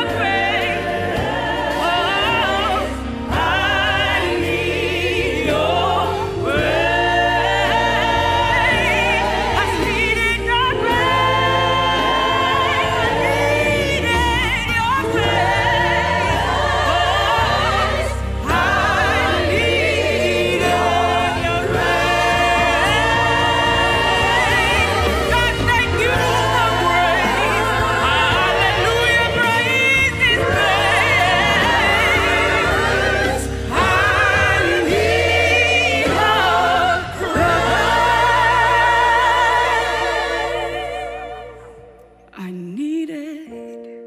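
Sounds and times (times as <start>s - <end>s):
choir singing with vibrato: 0.0s - 42.5s.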